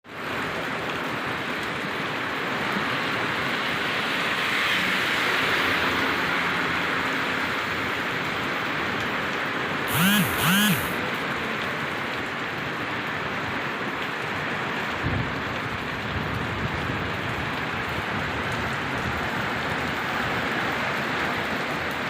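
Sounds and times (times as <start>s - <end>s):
steady rain falling: 0.1s - 9.9s, 10.9s - 22.0s.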